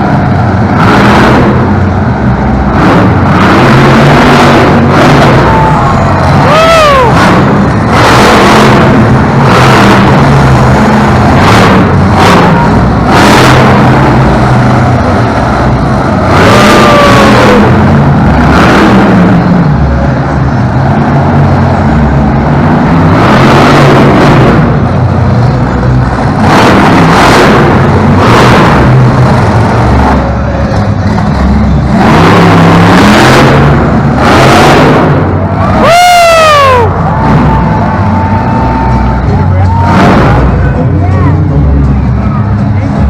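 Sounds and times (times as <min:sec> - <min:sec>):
truck engine revving hard: 0:00.0 - 0:43.0.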